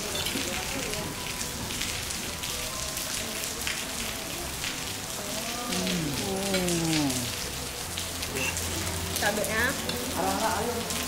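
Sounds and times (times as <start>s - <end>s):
rain pattering on paving: 0.0s - 11.0s.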